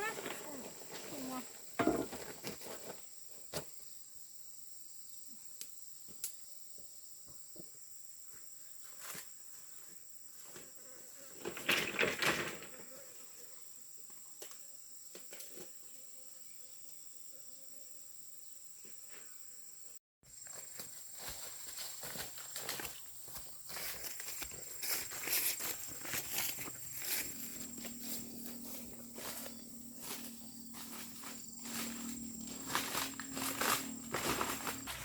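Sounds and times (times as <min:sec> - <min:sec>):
crickets droning: 0:00.0 - 0:35.0.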